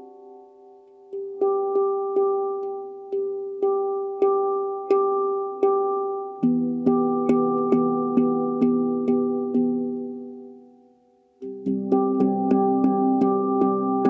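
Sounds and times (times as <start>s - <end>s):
handpan notes ringing: 1.1s - 10.6s, 11.4s - 14.0s.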